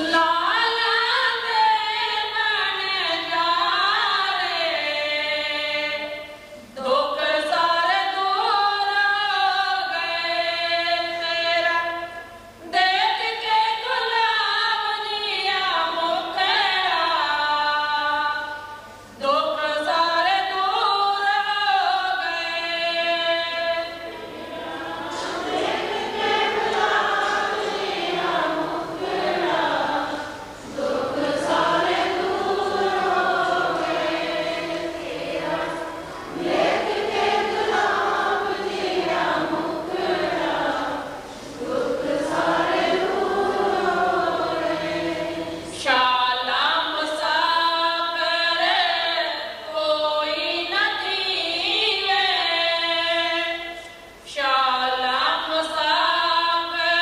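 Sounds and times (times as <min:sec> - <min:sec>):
devotional singing: 0:00.0 - 0:57.0.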